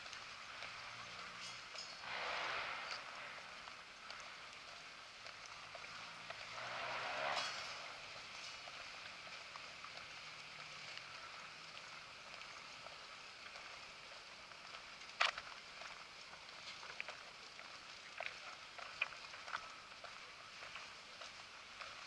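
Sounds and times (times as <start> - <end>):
light ticks: 0.0 - 2.0, 2.9 - 7.0, 7.6 - 22.0
outdoor background hiss: 0.0 - 22.0.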